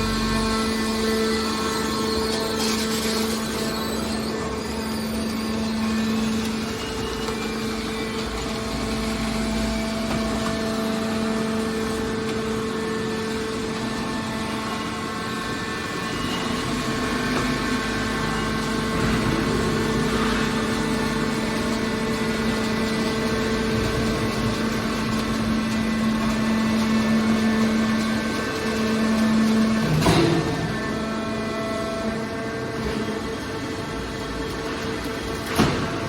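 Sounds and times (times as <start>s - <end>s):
hydraulic power unit humming: 0.0s - 36.0s.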